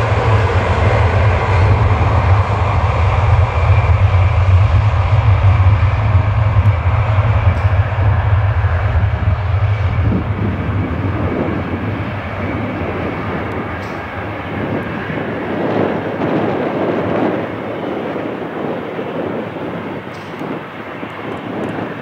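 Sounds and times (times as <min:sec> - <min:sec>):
low rumble: 0:00.0 - 0:20.3
jet airliner taking off: 0:00.0 - 0:22.0
steady jet roar: 0:00.0 - 0:22.0.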